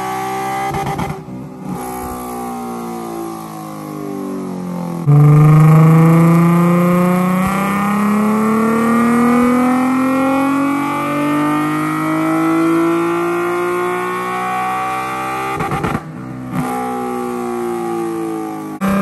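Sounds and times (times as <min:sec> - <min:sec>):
car engine revving at full throttle: 0:00.0 - 0:19.0.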